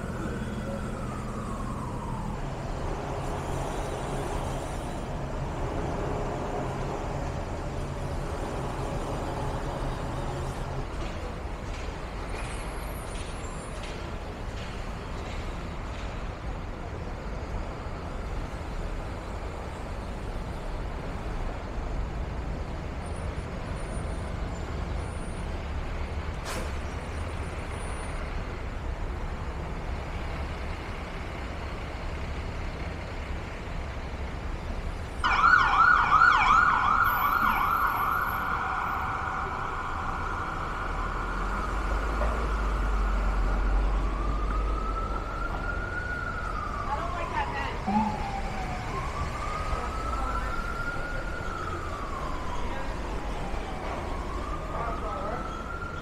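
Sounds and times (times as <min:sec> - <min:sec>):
emergency vehicle siren: 0:00.0 - 0:56.0
street traffic rumble: 0:00.0 - 0:56.0.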